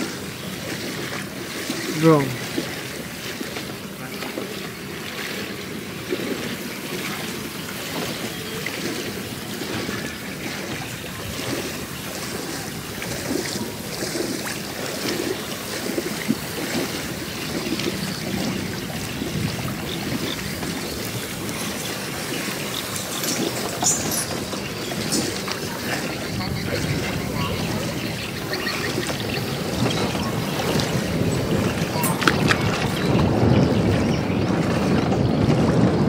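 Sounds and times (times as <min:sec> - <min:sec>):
sloshing through shallow water and mud: 0:00.0 - 0:36.0.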